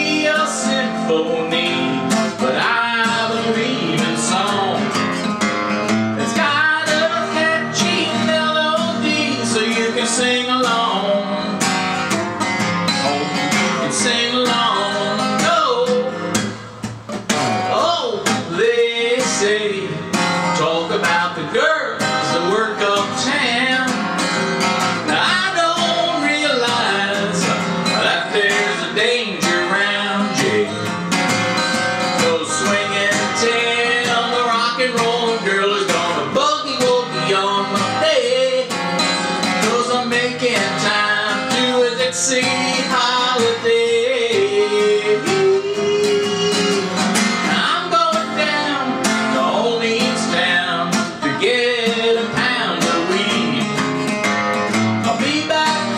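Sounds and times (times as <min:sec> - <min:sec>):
man singing: 0:00.0 - 0:16.8, 0:17.4 - 0:55.9
acoustic guitar: 0:00.0 - 0:55.9.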